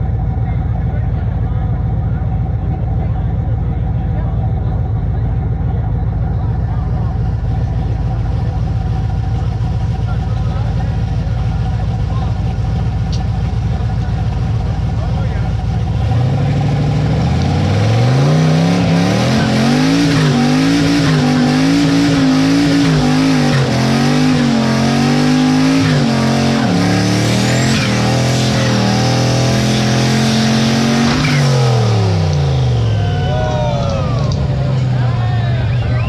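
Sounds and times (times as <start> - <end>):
truck engine revving hard: 6.4 - 36.0.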